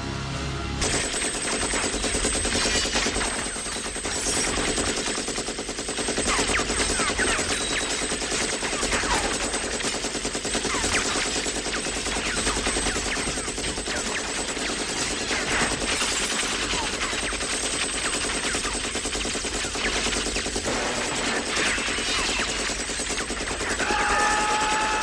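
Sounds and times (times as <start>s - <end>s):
machine gun automatic fire: 0.8s - 25.0s.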